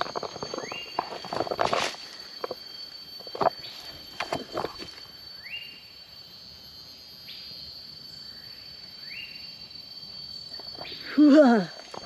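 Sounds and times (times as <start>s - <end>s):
insects droning: 0.0s - 12.0s
rising insect call: 0.0s - 12.0s.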